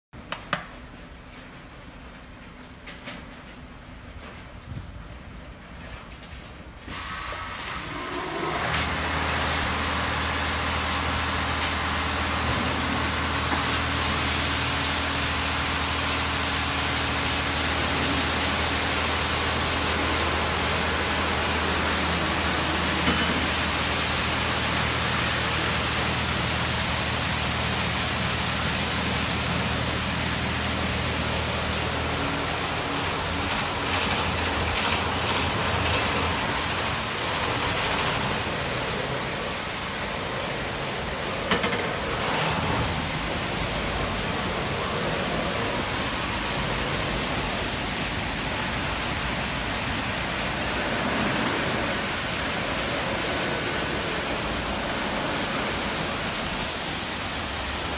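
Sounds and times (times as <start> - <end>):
motors and pumps humming: 0.2 - 57.9
spraying water: 6.9 - 57.9.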